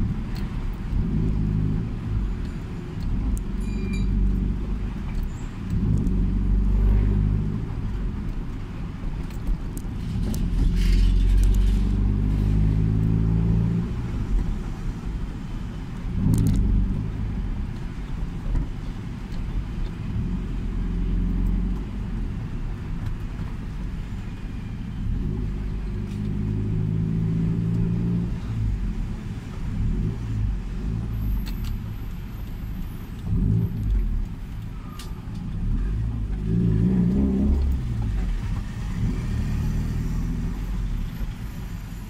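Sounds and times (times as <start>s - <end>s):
car engine accelerating: 0.0s - 15.4s, 16.0s - 23.5s, 24.9s - 42.0s.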